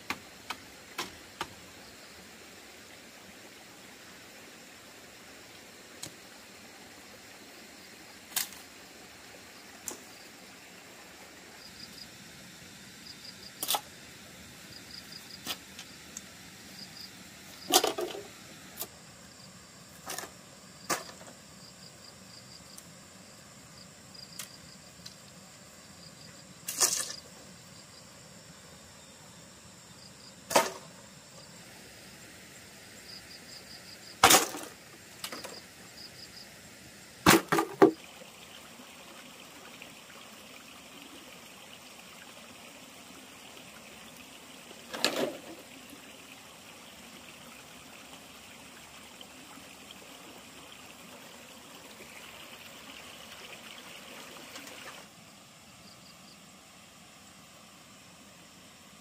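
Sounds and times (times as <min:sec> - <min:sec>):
faint insect chirping: 0:00.0 - 0:59.0.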